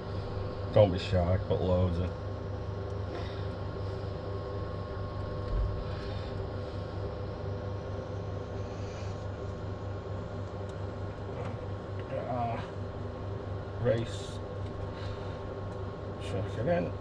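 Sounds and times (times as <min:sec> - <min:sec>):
mechanical hum with high tone: 0:00.0 - 0:17.0.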